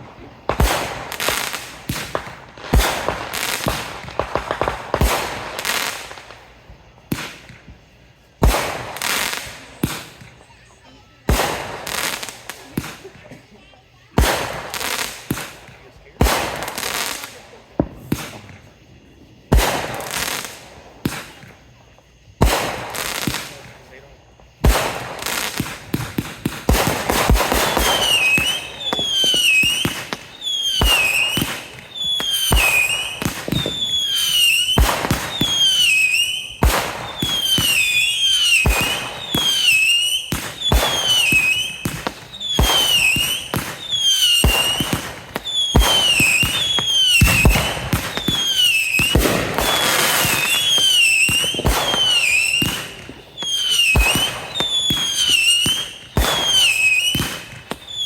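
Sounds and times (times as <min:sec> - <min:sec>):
fireworks bangs: 0:00.0 - 0:58.0
fireworks crackling: 0:00.0 - 0:58.0
fireworks whistling: 0:00.0 - 0:58.0.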